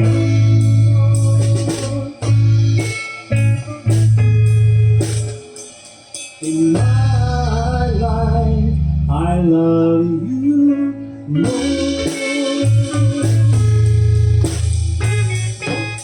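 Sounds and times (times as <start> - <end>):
rock band blues instrumental: 0.0 - 8.6, 10.7 - 16.0
bass guitar: 0.0 - 16.0
electric guitar: 0.0 - 16.0.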